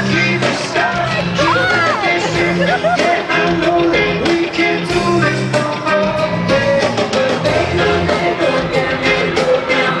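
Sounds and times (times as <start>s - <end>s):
distant live band with singer: 0.0s - 10.0s
drum beat: 0.0s - 10.0s.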